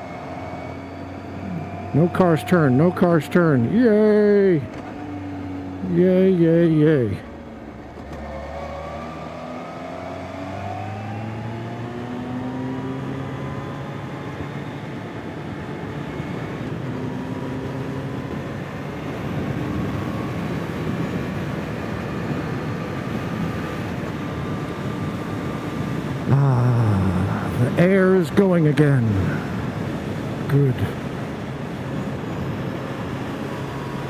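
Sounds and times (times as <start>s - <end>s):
motorcycle engine accelerating: 0.0s - 28.1s.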